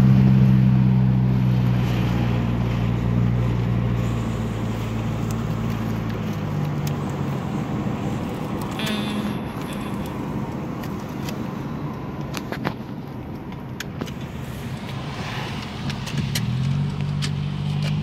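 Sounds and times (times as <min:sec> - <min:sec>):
car engine and road noise: 0:00.0 - 0:18.0
low engine hum: 0:00.0 - 0:18.0.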